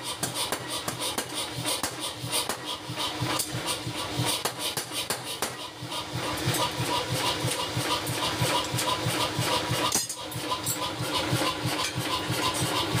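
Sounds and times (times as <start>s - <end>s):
power hammer running: 0.0s - 13.0s.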